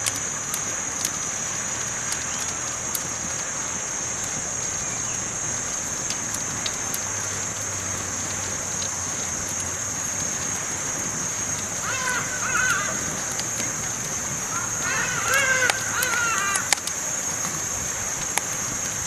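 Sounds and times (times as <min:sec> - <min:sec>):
campfire crackling and hissing: 0:00.0 - 0:19.0.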